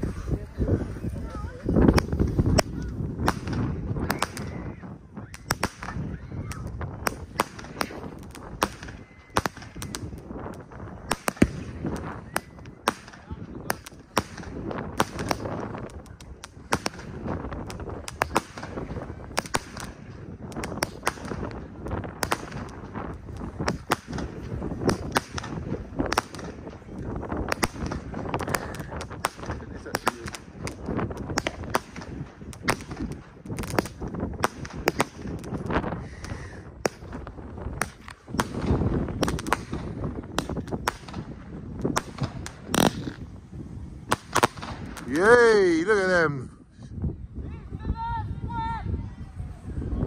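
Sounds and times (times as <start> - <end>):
fireworks bangs and cracks: 0.0 - 46.1.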